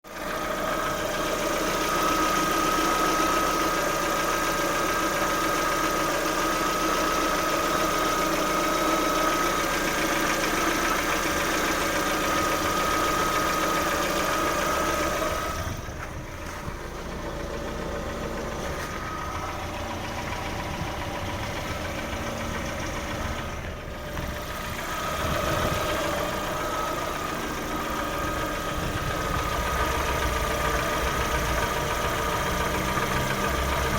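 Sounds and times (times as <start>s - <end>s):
petrol engine idling with knock: 0.1s - 33.9s.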